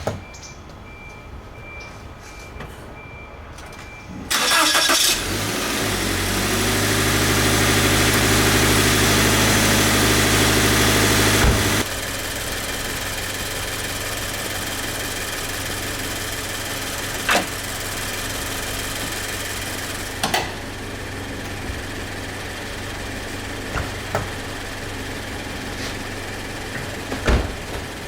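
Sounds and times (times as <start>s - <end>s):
car engine idling: 4.3s - 28.0s.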